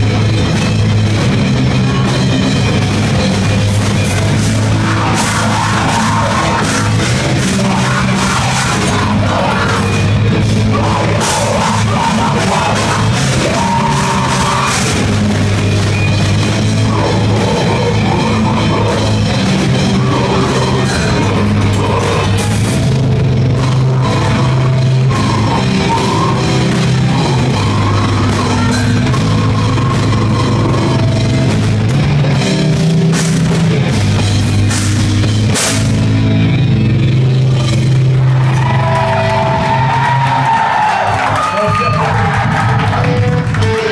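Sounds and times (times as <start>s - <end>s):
heavy bass guitar line: 0.0s - 43.9s
heavy rock band playing: 0.0s - 43.9s.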